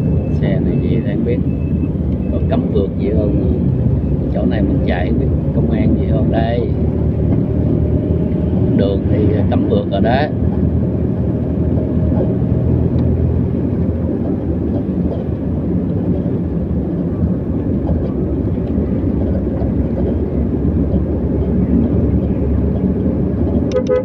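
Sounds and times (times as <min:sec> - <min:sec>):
vehicle rumbling on highway: 0:00.0 - 0:24.0.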